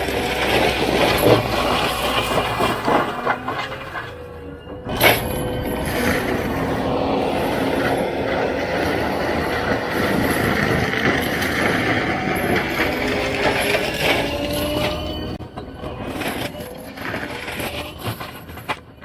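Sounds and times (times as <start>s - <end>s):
diesel engine under load: 0.0s - 19.0s
hydraulic whine: 0.0s - 19.0s.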